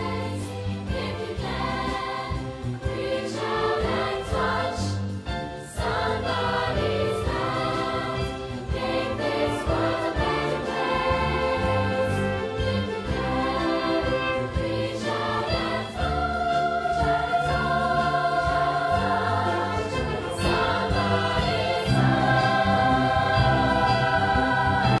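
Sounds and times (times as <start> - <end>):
backing music: 0.0 - 25.0
choir singing: 0.0 - 25.0.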